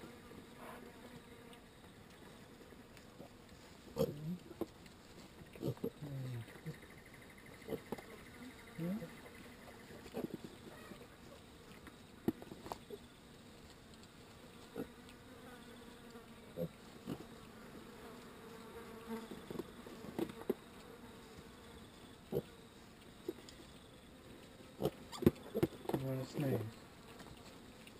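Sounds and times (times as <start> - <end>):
flies buzzing: 0.0 - 4.7, 5.5 - 13.5, 14.3 - 27.8.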